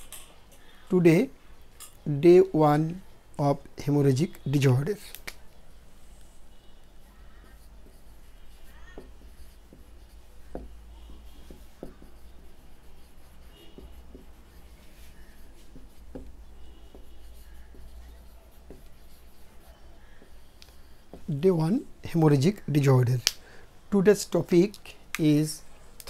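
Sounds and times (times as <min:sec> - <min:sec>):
marker writing on whiteboard: 0:00.0 - 0:23.2.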